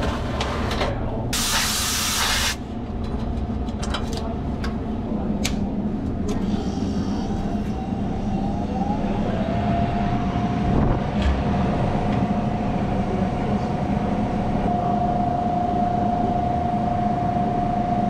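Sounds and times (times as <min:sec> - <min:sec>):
refrigeration unit running with whine: 0:02.5 - 0:18.0.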